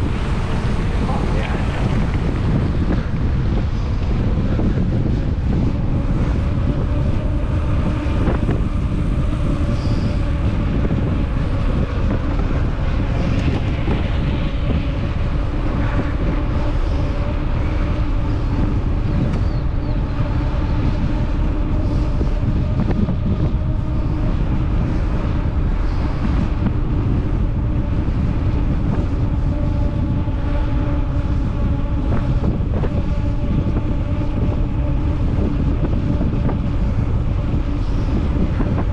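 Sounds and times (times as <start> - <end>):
steady low hum: 0.0 - 38.9
wind rumbling on microphone: 0.0 - 38.9.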